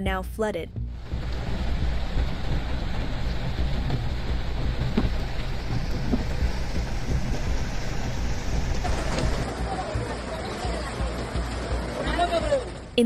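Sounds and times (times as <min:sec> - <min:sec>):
floodwater running across street: 0:00.8 - 0:13.0
vehicle engine driving through water: 0:00.8 - 0:13.0
heavy rain: 0:00.9 - 0:13.0.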